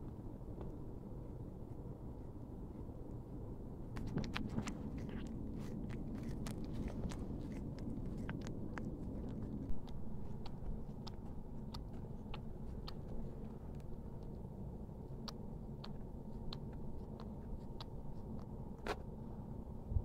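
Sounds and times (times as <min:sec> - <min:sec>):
cat licking and nibbling: 0:00.6 - 0:19.5.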